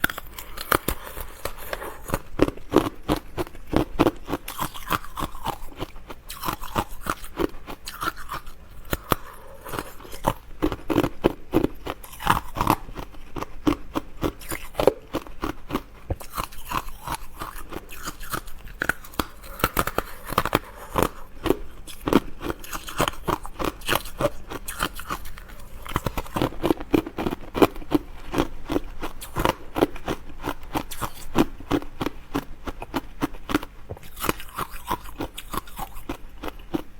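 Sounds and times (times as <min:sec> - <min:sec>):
chewing crisp food: 0:00.0 - 0:36.9.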